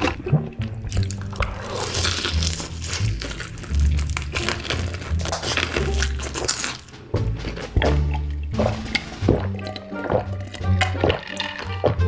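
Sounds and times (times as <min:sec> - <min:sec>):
background music with bass: 0:00.0 - 0:12.0
crunching and chewing chicken: 0:00.0 - 0:12.0.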